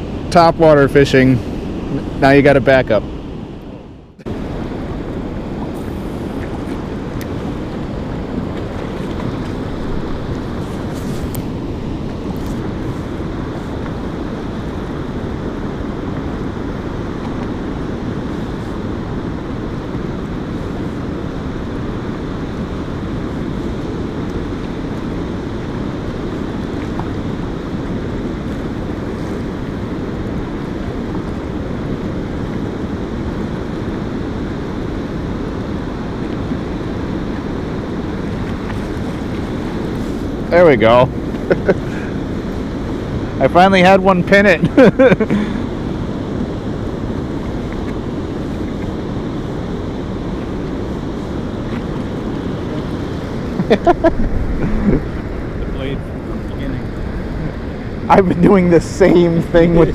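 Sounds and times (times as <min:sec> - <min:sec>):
low steady rushing noise: 0:00.0 - 0:59.9
wind on microphone: 0:00.0 - 0:59.9.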